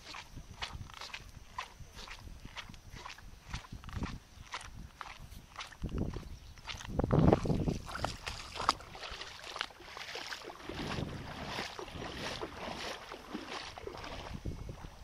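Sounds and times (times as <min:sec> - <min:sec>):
wind buffeting microphone: 0:00.0 - 0:09.2, 0:10.4 - 0:15.0
footsteps on wet pavement: 0:00.0 - 0:14.2.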